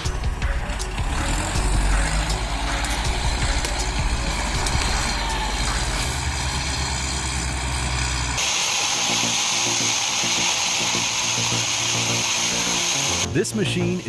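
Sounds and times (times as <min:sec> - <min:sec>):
diesel engine running: 0:00.0 - 0:13.3
log saw whining: 0:00.0 - 0:13.3.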